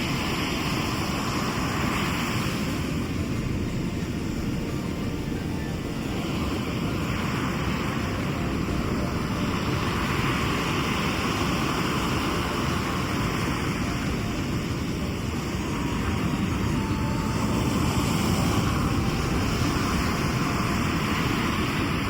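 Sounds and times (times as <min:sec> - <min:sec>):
surf rumbling: 0:00.0 - 0:22.0.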